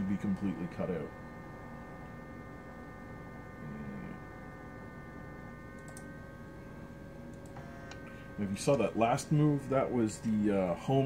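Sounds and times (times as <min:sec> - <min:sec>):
stepper motors whining: 0:00.0 - 0:11.0.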